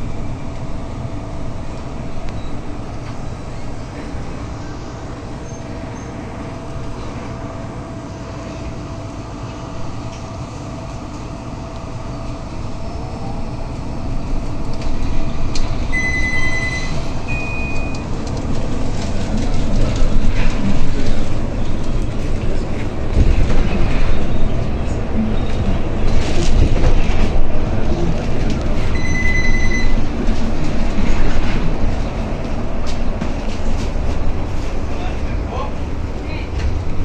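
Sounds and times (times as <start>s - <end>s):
bus engine and tyres rumbling: 0.0s - 37.0s.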